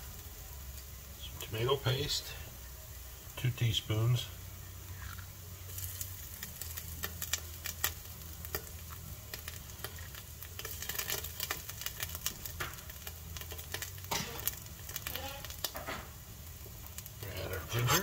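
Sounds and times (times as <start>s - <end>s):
onions sizzling in a frying pan: 0.0s - 18.0s.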